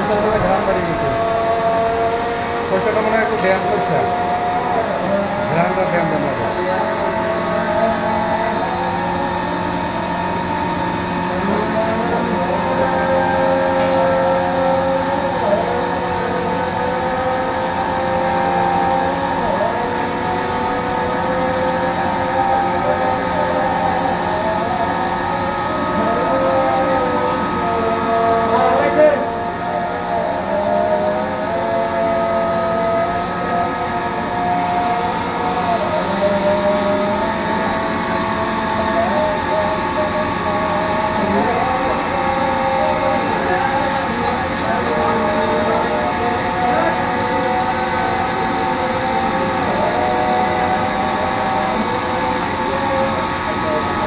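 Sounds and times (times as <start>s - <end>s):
mechanical motor drone: 0.0s - 54.0s.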